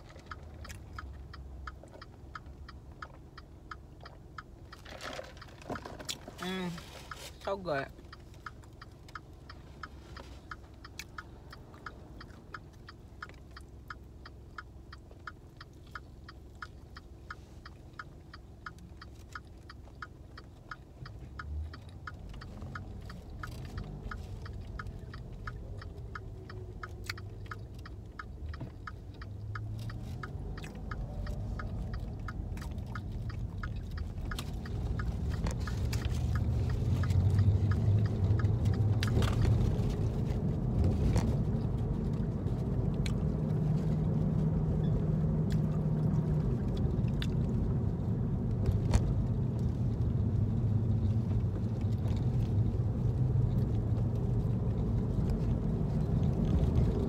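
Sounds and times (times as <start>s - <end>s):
low engine and road rumble: 0.0s - 57.0s
turn-signal relay ticking: 0.0s - 57.0s.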